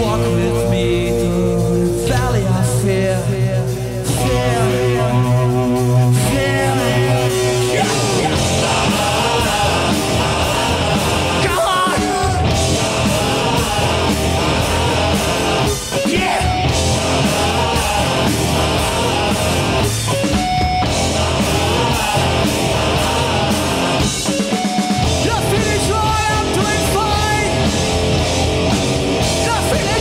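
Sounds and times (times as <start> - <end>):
drums and cymbals: 0.0 - 30.0
punk rock band playing live: 0.0 - 30.0.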